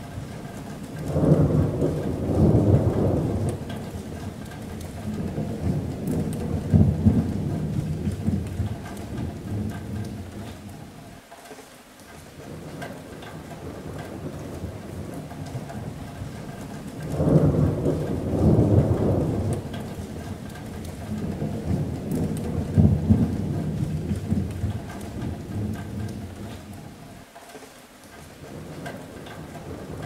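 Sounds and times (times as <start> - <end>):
rolling thunder: 0.0 - 11.0, 12.4 - 27.0, 28.4 - 30.0
rain on a metal roof: 0.0 - 30.0.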